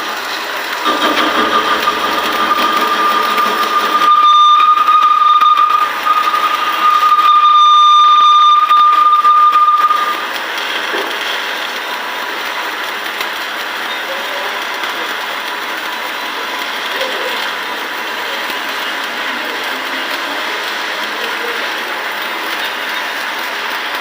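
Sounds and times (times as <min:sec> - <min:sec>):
electric arc welding crackling: 0:00.0 - 0:24.0.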